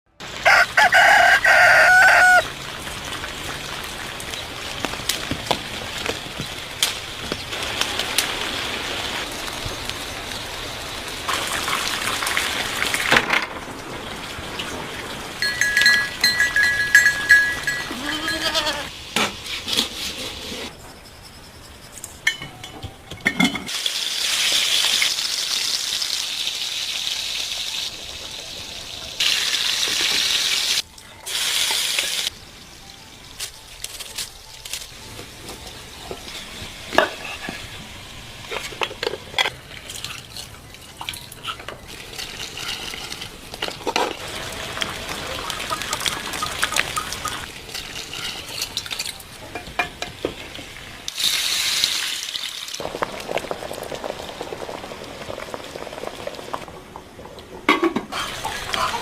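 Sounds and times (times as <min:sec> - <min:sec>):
outdoor background noise: 0:00.1 - 0:59.0.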